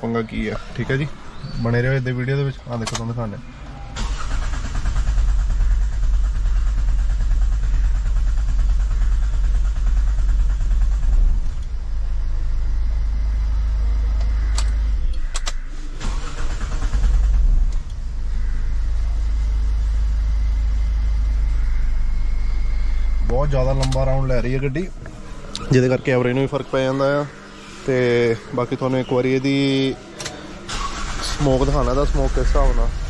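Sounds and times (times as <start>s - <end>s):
engine idling: 0.0s - 33.0s
diesel engine cranking on starter: 0.2s - 33.0s.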